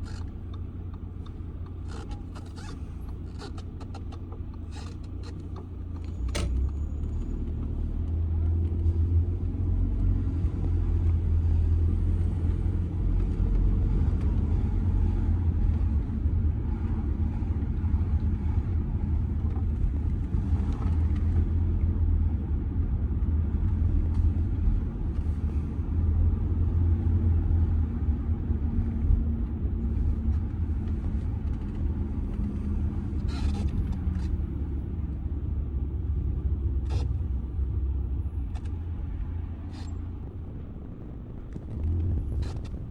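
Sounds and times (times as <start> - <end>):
car engine and tyres rumbling: 0.0 - 42.9.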